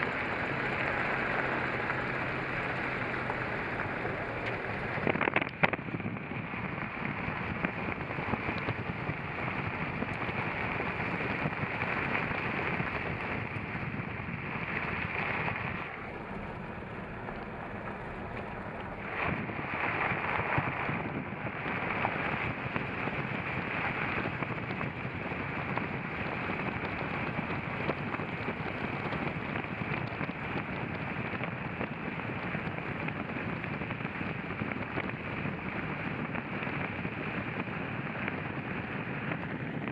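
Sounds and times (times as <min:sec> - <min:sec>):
vehicle driving off-road: 0:00.0 - 0:39.9
wind buffeting microphone: 0:00.0 - 0:39.9.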